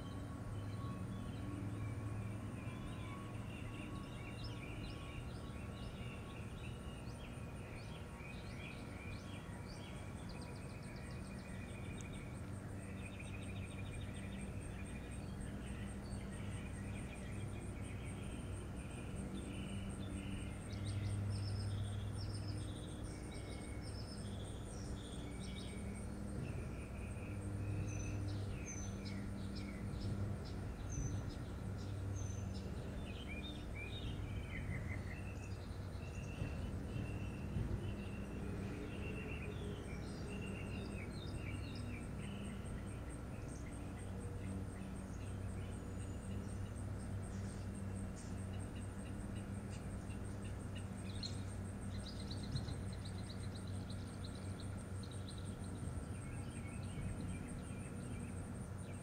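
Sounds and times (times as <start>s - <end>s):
birds chirping and singing: 0.0s - 59.0s.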